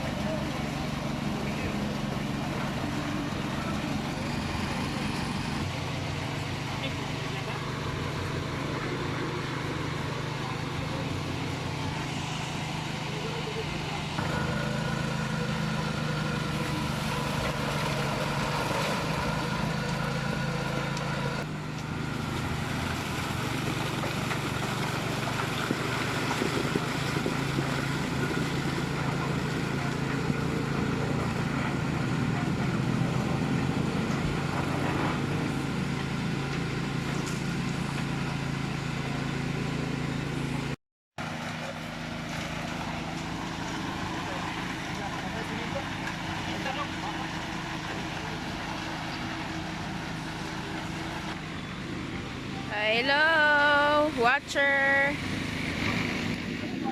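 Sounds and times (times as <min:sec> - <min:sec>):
engine droning steadily: 0:00.0 - 0:56.9.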